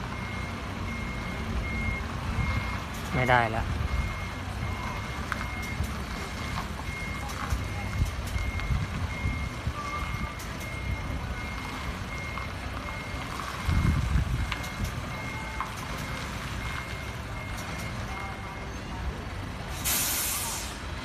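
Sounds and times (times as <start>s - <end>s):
reversing alarm beeping: 0.0s - 19.0s
truck engine rumble: 0.0s - 21.0s.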